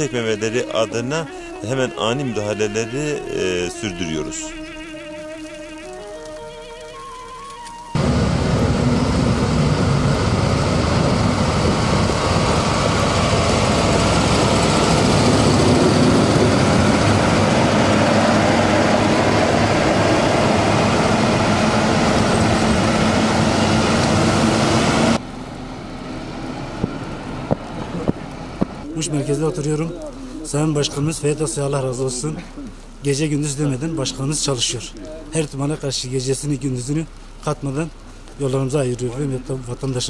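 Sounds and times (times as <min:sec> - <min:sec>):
heavy machine engine rumbling: 0:07.1 - 0:40.0.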